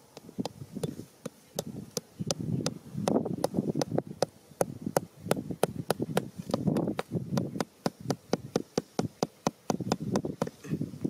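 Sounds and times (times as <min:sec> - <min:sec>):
hand scraping sand: 0:00.0 - 0:11.0.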